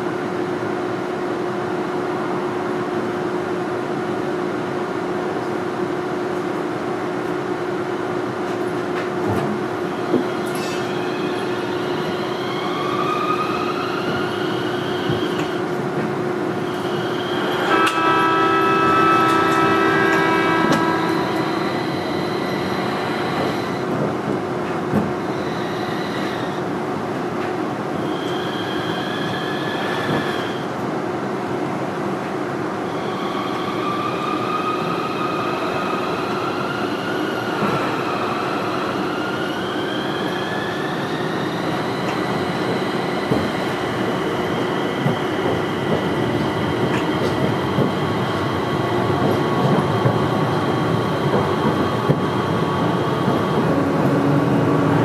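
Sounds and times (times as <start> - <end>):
tram running rumble and hum: 0.0 - 55.0.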